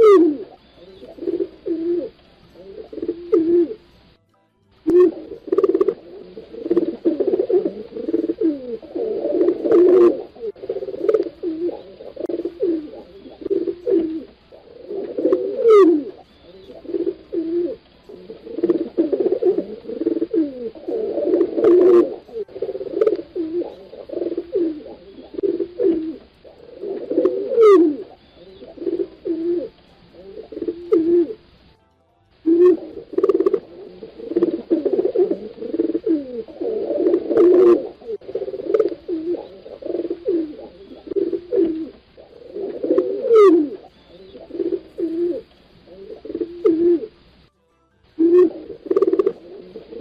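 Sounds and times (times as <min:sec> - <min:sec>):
pigeons cooing: 0:00.0 - 0:04.1, 0:04.9 - 0:31.7, 0:32.4 - 0:47.4, 0:48.2 - 0:50.0.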